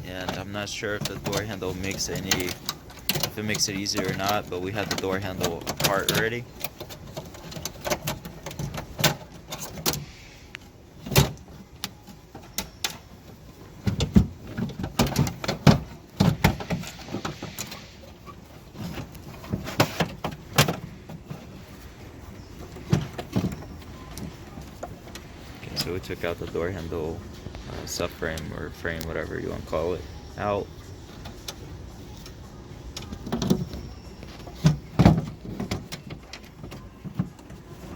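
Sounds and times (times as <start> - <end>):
clicks and rattles of door parts: 0.0 - 26.8, 31.2 - 37.9.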